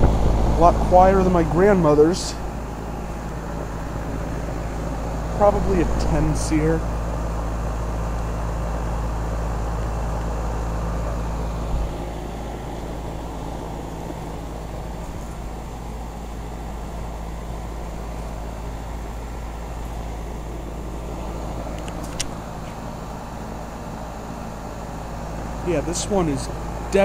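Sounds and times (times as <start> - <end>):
compressor low hum: 0.0 - 27.0
fan running: 0.0 - 27.0.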